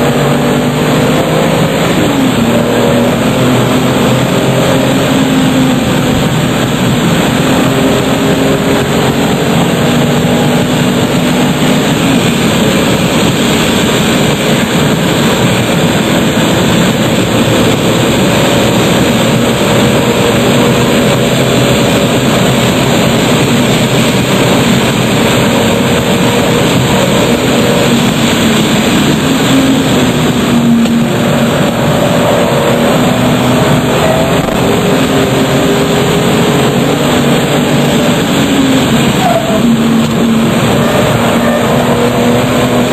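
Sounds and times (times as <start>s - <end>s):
sports car engine at speed: 0.0s - 42.9s
wind and road noise: 0.0s - 42.9s.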